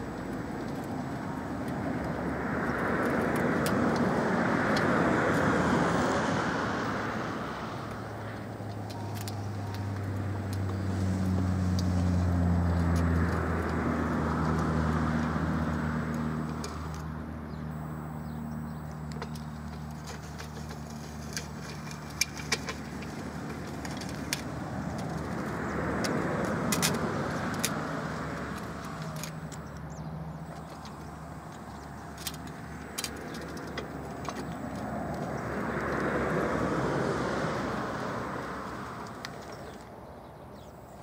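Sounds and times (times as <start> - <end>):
vehicles passing: 0.0 - 41.0.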